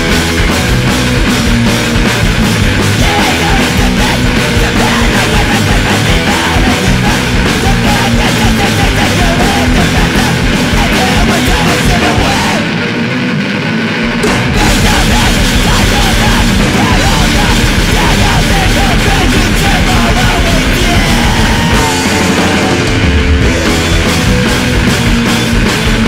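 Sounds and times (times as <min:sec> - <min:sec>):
punk band playing: 0:00.0 - 0:26.0.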